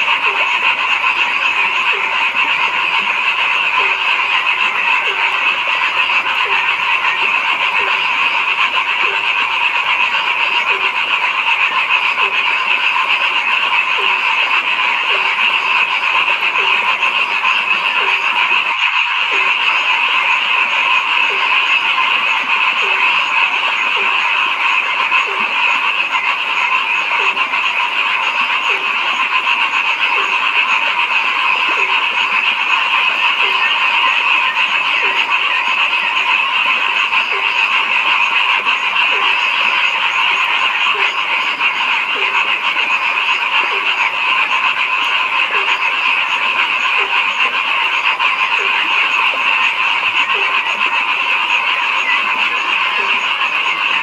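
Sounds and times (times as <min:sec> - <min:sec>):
frog chorus: 0:00.0 - 0:54.0
low frog croak: 0:00.0 - 0:54.0.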